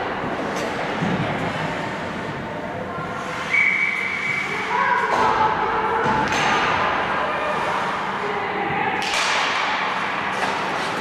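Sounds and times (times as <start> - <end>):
ice hockey game noise: 0.0 - 11.0.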